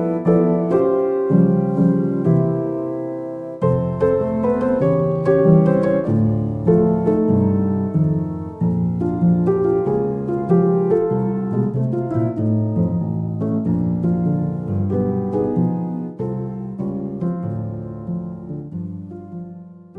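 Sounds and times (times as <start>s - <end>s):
gentle piano melody: 0.0s - 19.9s.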